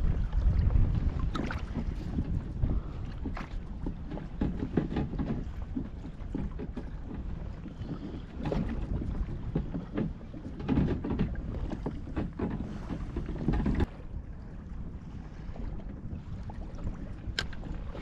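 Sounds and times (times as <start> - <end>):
water splashing against kayak hull: 0.0 - 18.0
wind buffeting microphone: 0.0 - 18.0.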